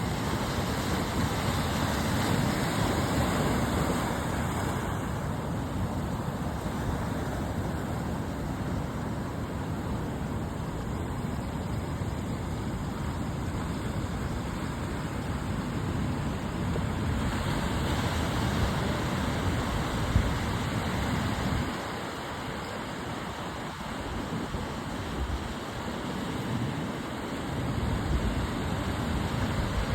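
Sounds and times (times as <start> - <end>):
sea surf rumbling: 0.0 - 11.2, 11.9 - 29.9.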